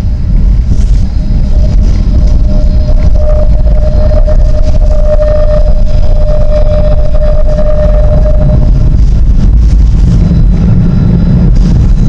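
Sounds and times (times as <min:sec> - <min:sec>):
steady whine: 0:00.0 - 0:12.0
tram wheels rumbling on track: 0:00.0 - 0:12.0.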